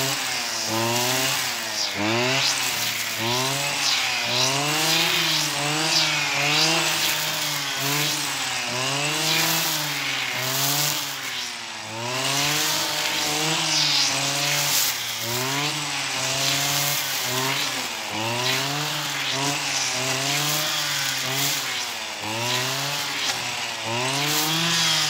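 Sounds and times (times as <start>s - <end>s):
brush cutter engine revving: 0.0s - 25.0s.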